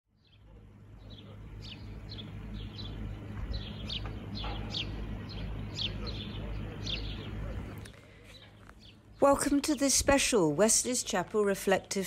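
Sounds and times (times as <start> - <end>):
low harbour hum: 0.1 - 12.0
small birds chirping: 0.1 - 12.0.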